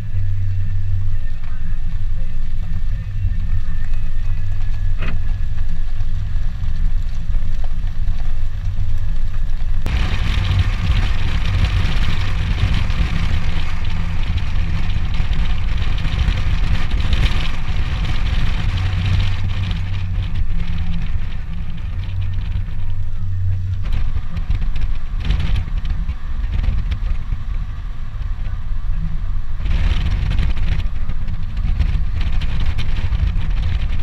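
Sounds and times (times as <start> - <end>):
car and road noise rumble: 0.0 - 34.0
wind buffeting microphone: 0.0 - 34.0.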